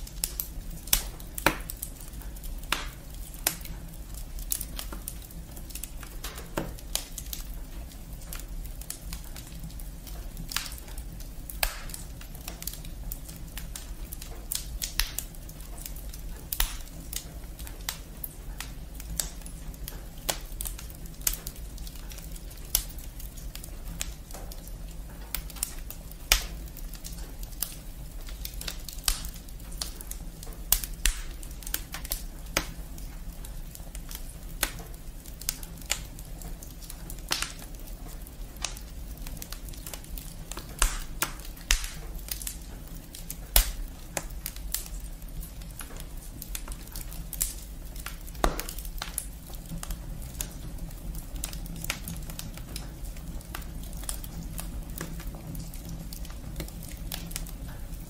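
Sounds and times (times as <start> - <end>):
firewood crackling and popping: 0.0 - 58.0
low fire rumble: 0.0 - 58.0.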